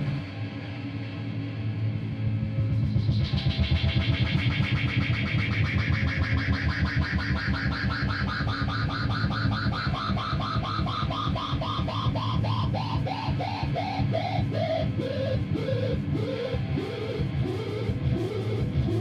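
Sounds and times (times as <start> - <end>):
electric guitar low drone: 0.0 - 19.0.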